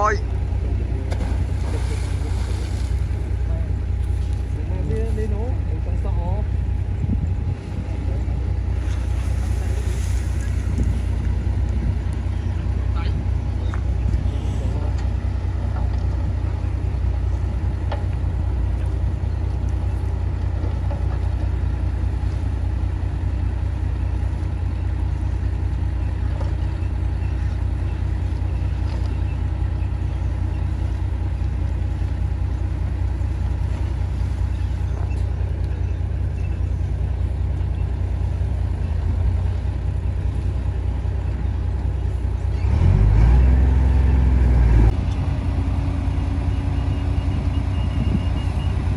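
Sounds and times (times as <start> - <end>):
diesel earthmoving machine rumbling: 0.0 - 48.9.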